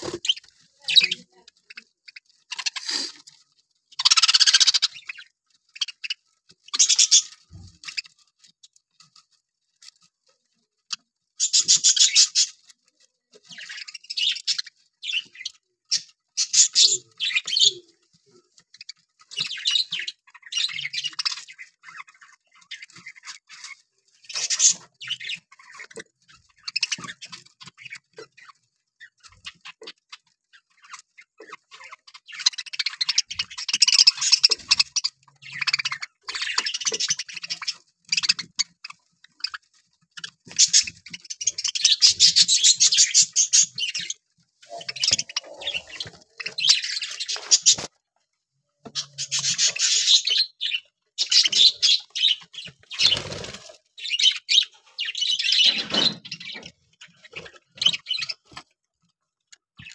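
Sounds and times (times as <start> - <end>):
budgerigars chirping: 0.0 - 8.2, 10.8 - 48.0, 48.8 - 58.6.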